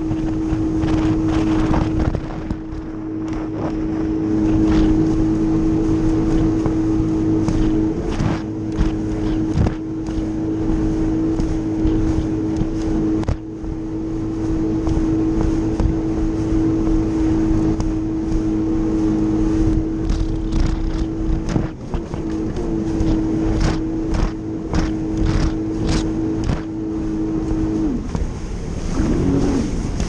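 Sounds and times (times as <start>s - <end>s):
jet ski engine whine: 0.0s - 30.0s
rushing water and wind: 0.0s - 30.0s.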